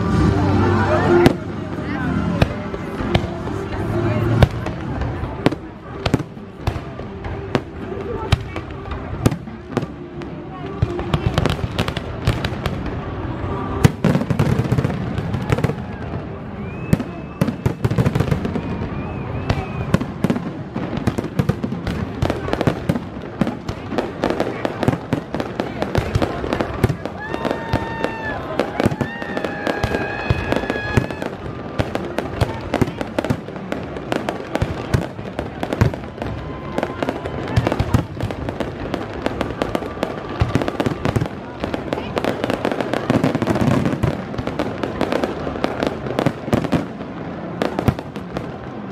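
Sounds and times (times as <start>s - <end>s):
faint whistling fireworks: 0.0s - 48.9s
fireworks bangs and crackles: 0.0s - 48.9s.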